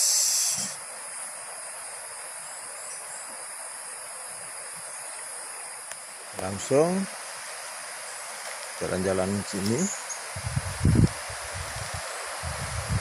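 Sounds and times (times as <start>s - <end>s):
high-pitched insect chorus: 0.0s - 13.0s
outdoor hiss: 0.0s - 13.0s.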